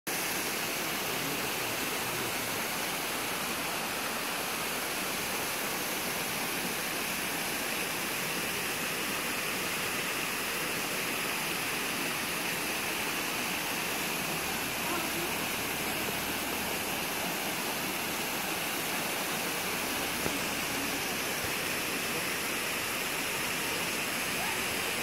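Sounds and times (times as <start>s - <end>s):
waterfall rushing and splashing: 0.1s - 25.0s.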